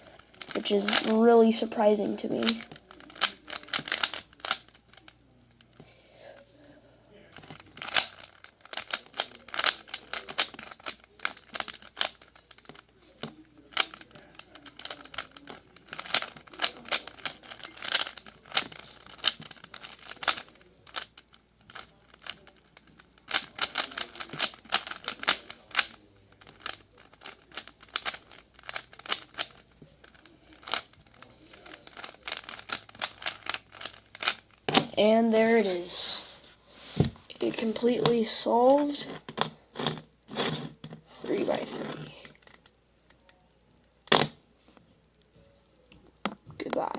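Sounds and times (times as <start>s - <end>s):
plastic puzzle cube clicking: 0.1s - 5.8s, 7.3s - 35.1s, 37.4s - 44.5s.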